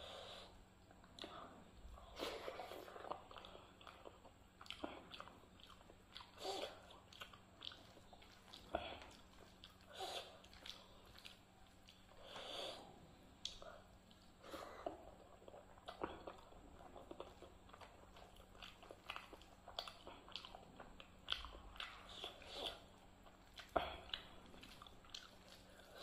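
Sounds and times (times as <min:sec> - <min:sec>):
chewing and lip smacks: 0:00.8 - 0:12.5, 0:13.4 - 0:26.0.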